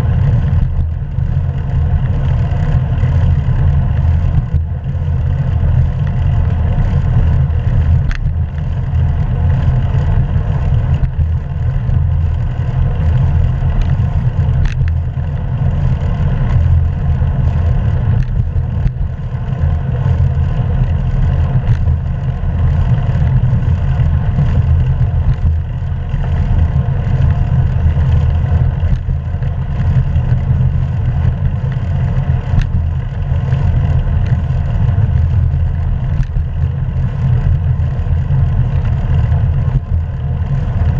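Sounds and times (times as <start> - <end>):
bike clicks and rattles: 0.0 - 40.9
road noise: 0.0 - 40.9.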